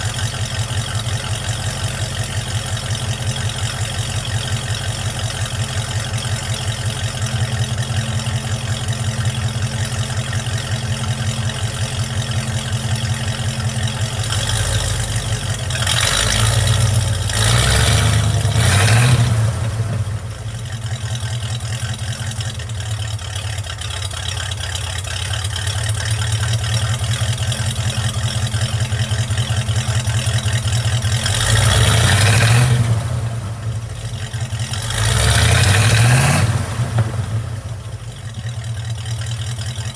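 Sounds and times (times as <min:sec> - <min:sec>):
truck engine idling and revving: 0:00.0 - 0:39.9.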